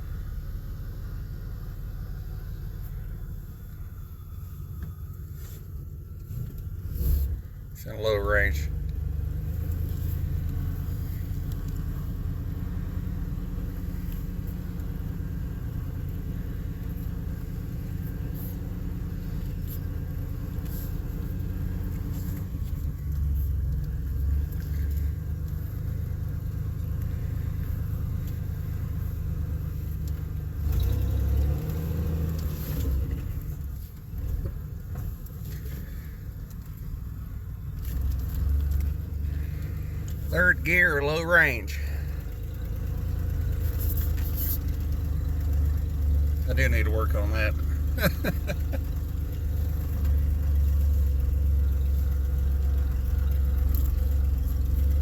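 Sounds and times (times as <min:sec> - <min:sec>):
truck engine low rumble: 0:00.0 - 0:55.0.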